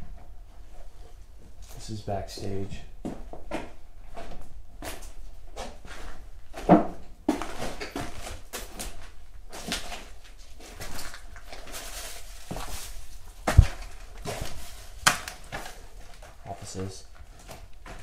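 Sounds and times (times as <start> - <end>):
knocks scuffs and rattles: 1.6 - 18.0.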